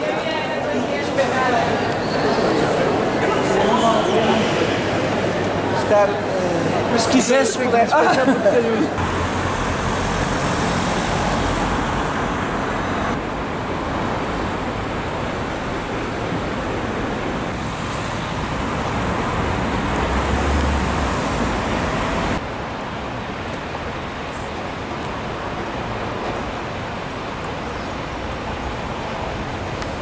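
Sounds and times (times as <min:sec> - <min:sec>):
street traffic passing cars: 0:00.0 - 0:30.0.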